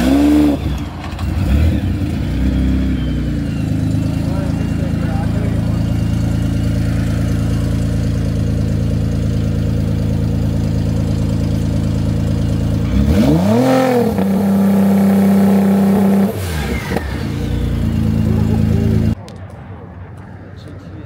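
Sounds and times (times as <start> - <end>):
car engine idling and revving: 0.0 - 19.2.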